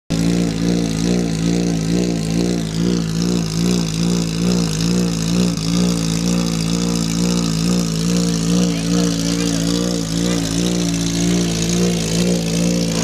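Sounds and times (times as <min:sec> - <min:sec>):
race car engine idling: 0:00.1 - 0:13.0.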